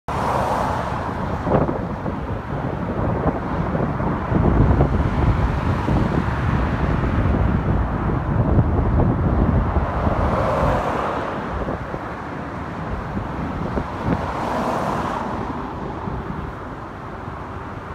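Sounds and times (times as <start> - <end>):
road traffic: 0.0 - 17.9
wind buffeting microphone: 0.1 - 17.9.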